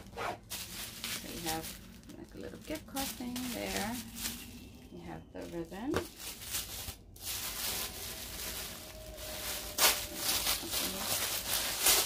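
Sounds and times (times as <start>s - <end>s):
gift box packaging rustling: 0.0s - 4.9s, 5.5s - 12.0s.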